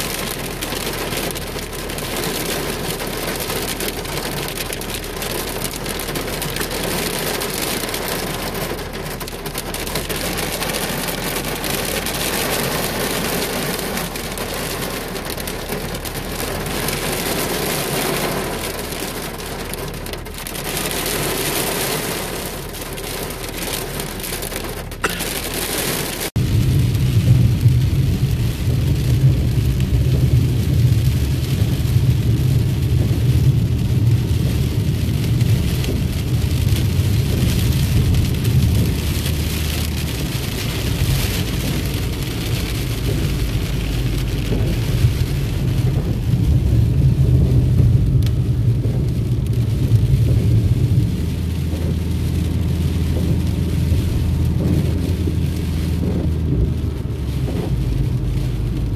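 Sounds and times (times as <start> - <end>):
car driving on wet road: 0.0 - 58.9
heavy rain on car roof: 0.0 - 58.9.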